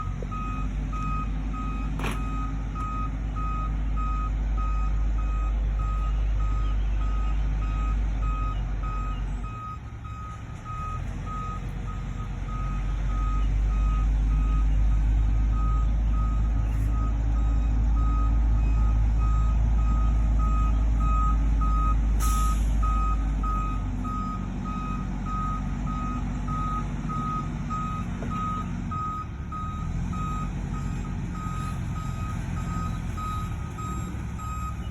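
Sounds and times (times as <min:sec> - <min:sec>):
diesel engine rumble: 0:00.0 - 0:34.9
reversing alarm beeping: 0:00.0 - 0:34.9.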